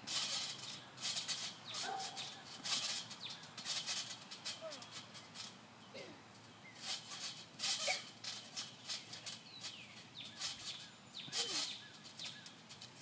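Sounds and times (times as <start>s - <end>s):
trampoline springs squeaking: 0.0s - 13.0s.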